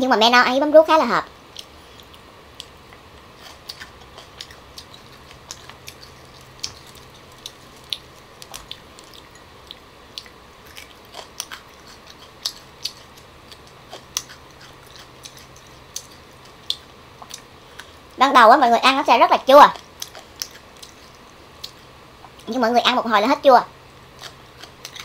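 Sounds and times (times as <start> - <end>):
person chewing crisp pods: 1.5 - 18.2, 19.7 - 22.5, 24.0 - 25.0.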